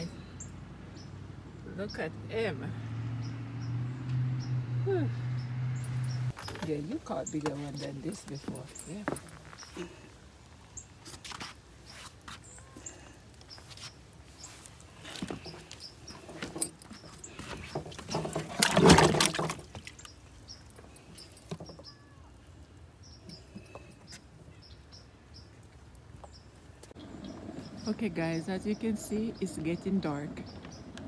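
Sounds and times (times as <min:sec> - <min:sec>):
small birds chirping: 0:00.0 - 0:18.8, 0:19.7 - 0:31.0.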